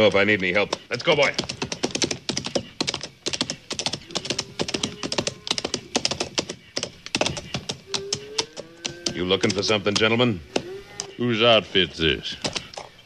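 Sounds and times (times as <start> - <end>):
horse hoofbeats galloping: 0.0 - 11.1.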